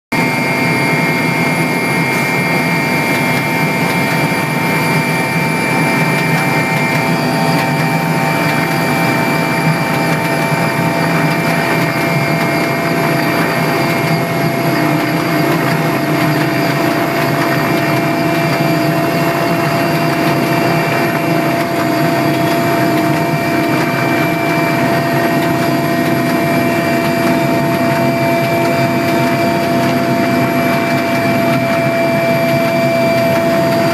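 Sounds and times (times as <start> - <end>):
helicopter engine and rotor drone: 0.1 - 33.9
steady whining tones: 0.2 - 33.9.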